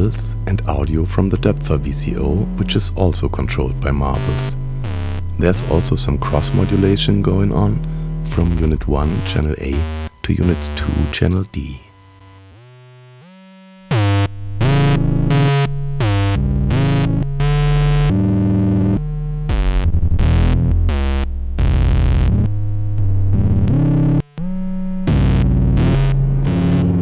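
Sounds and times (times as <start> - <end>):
buzzy distorted synthesizer notes: 0.0 - 22.6, 23.3 - 27.0.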